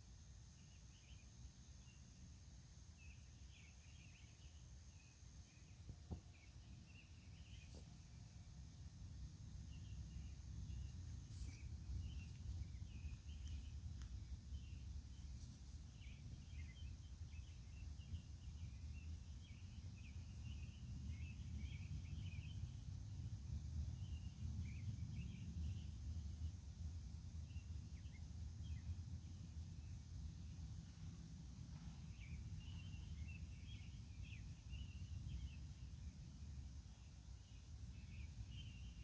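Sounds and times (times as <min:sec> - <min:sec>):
small birds chirping: 0:02.9 - 0:26.5, 0:27.4 - 0:39.0.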